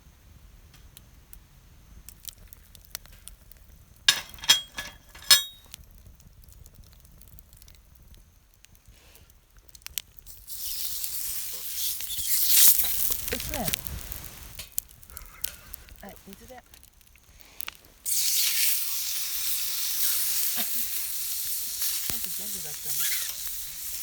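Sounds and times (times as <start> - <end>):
food sizzling on hot cookware: 0.2 - 24.0.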